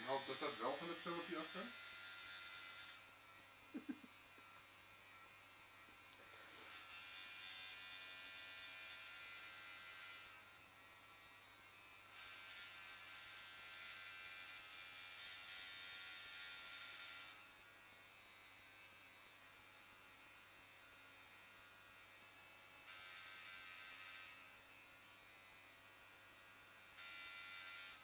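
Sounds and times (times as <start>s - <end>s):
tattoo machine buzzing: 0.0s - 28.0s.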